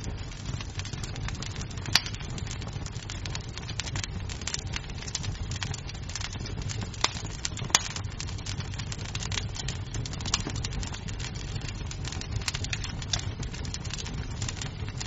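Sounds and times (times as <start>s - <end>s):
burning wood popping: 0.0s - 15.0s
wood fire crackling: 0.0s - 15.0s.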